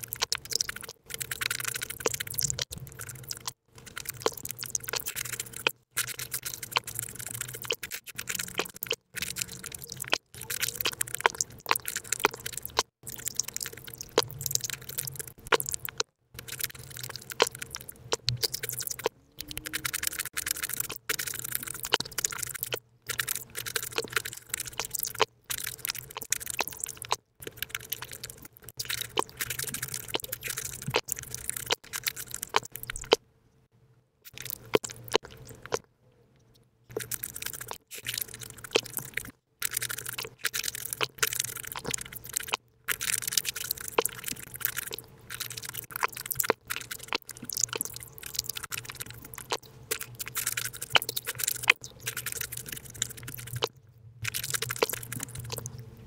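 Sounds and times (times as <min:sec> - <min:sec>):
fast chewing and crunching: 0:00.0 - 0:33.2, 0:34.2 - 0:56.0
mouth clicks: 0:00.0 - 0:33.2, 0:36.9 - 0:55.9.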